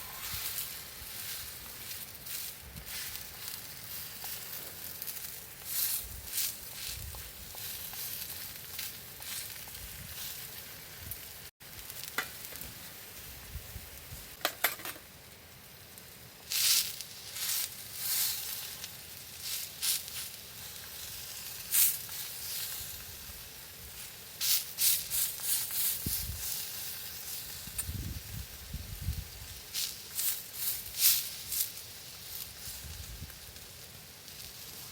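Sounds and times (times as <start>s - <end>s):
fat popping and crackling: 0.0s - 12.9s, 14.0s - 15.2s, 15.8s - 34.9s
food sizzling on a griddle: 0.0s - 34.9s.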